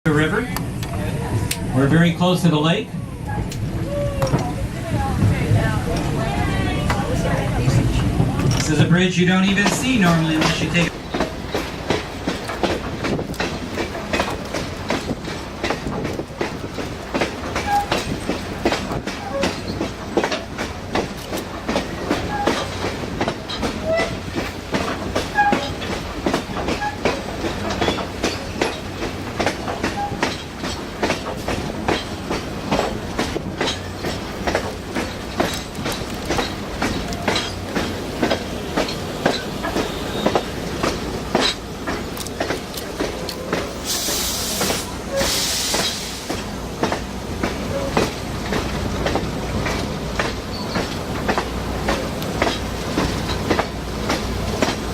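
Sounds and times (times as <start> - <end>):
train wheels clacking over rails: 0.1 - 54.9.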